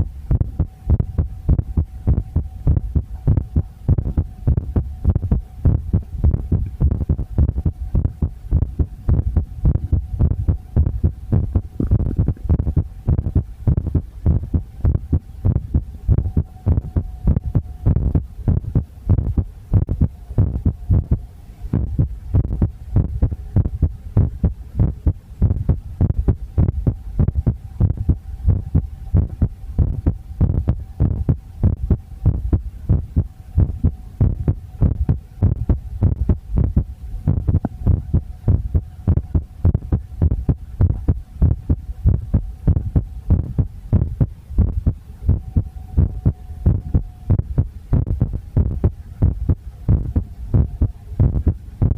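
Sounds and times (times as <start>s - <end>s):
faint steady hum: 0.0s - 51.9s
heartbeat thumps: 0.0s - 51.9s.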